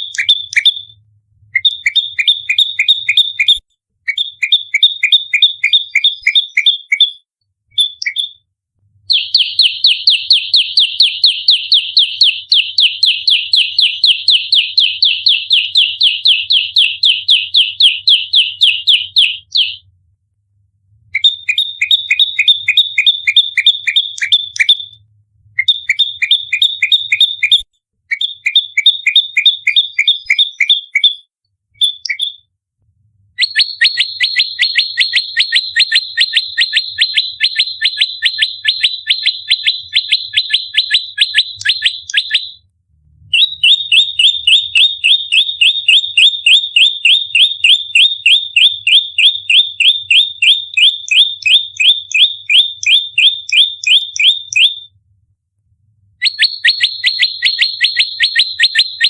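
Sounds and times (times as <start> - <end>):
bird singing sharp rapid chirps: 0.0 - 0.9, 1.6 - 8.4, 9.1 - 19.8, 21.2 - 25.0, 25.6 - 32.5, 33.4 - 42.6, 43.3 - 54.9, 56.2 - 59.0.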